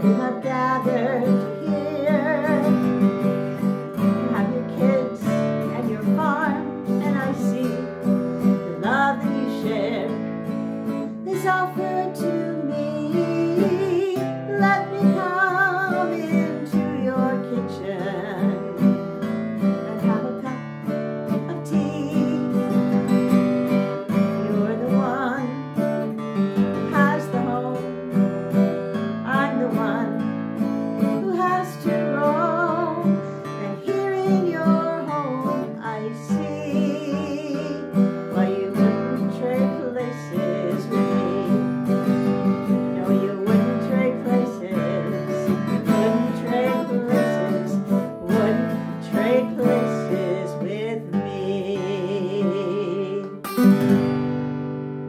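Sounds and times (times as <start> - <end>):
woman singing: 0.0 - 53.5
acoustic guitar strumming: 0.0 - 55.0.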